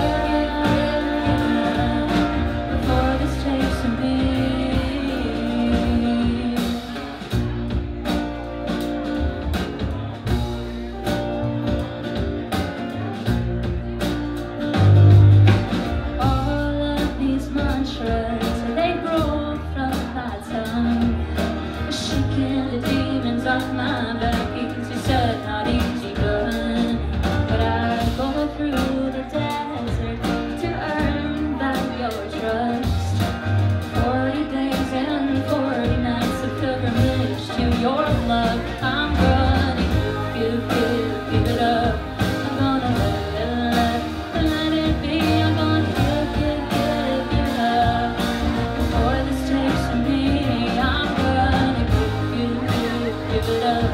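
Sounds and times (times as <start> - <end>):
women singing: 0.0 - 7.3, 16.2 - 53.9
acoustic guitars strummed: 0.0 - 53.9
drums: 0.0 - 53.9
keyboard: 0.0 - 53.9.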